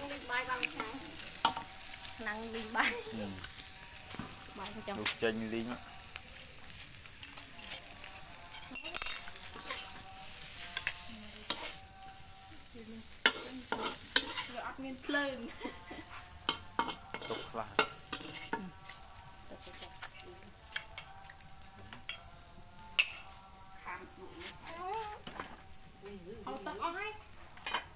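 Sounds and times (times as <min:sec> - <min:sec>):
metal spoon scraping wok: 0:00.0 - 0:23.5
low frying sizzle: 0:00.0 - 0:27.9.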